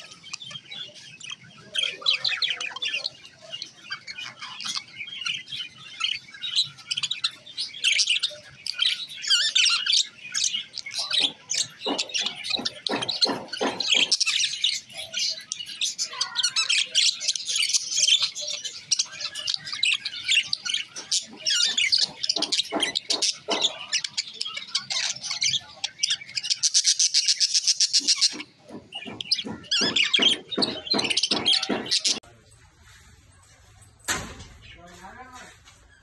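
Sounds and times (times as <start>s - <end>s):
budgerigars chattering: 0.0s - 32.2s.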